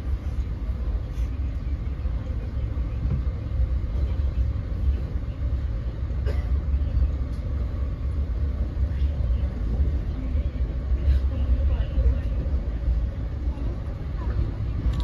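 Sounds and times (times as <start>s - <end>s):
train rumble on rails: 0.0s - 15.0s.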